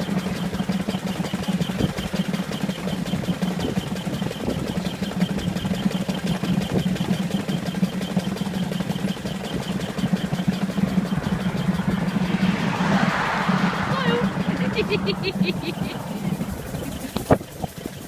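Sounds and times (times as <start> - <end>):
steam engine exhaust beating: 0.0 - 18.0.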